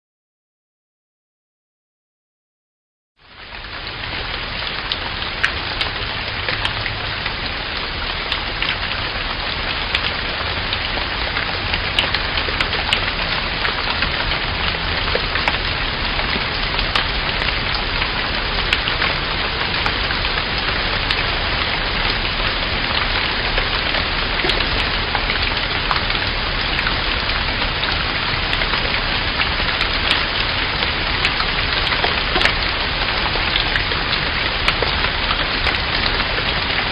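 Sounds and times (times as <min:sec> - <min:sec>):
steady rain falling: 0:03.2 - 0:36.9.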